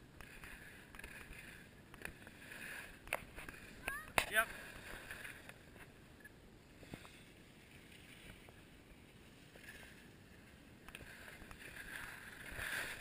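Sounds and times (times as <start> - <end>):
skis sliding over snow: 0.0 - 6.0, 6.6 - 13.0.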